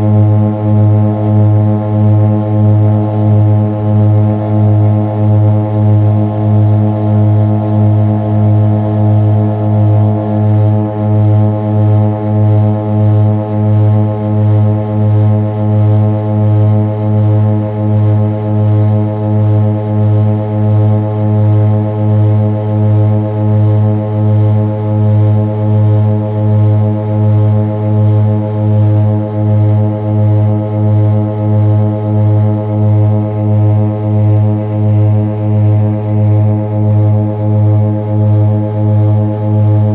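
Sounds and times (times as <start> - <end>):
propeller engines droning: 0.0 - 39.9.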